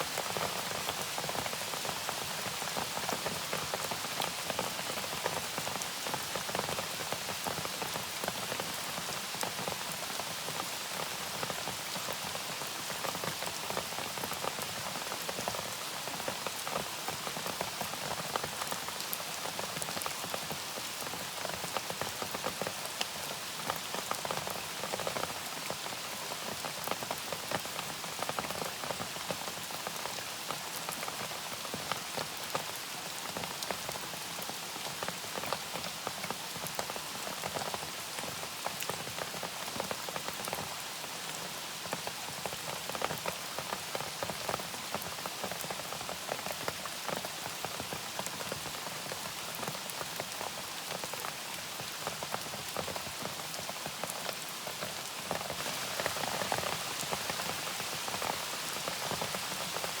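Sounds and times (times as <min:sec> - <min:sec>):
rain drops ticking on a surface: 0:00.0 - 1:00.0.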